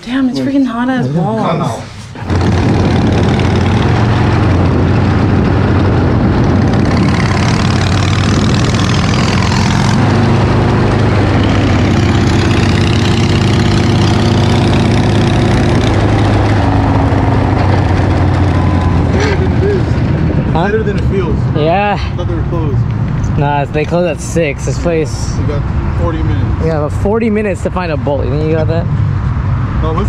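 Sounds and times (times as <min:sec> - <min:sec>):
road and wind noise: 0:00.0 - 0:30.0
vehicle engine running: 0:01.6 - 0:30.0.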